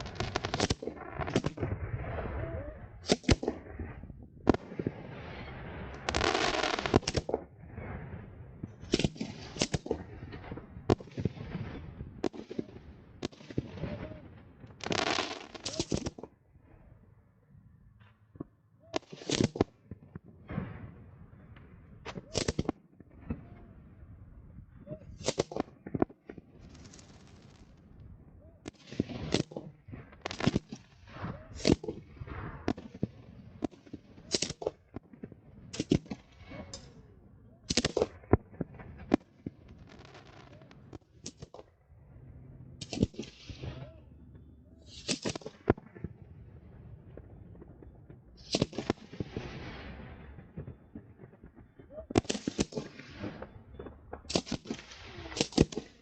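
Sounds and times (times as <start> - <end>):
fireworks bangs: 0.0 - 16.4, 18.3 - 56.0
fireworks crackle and rumble: 0.0 - 56.0.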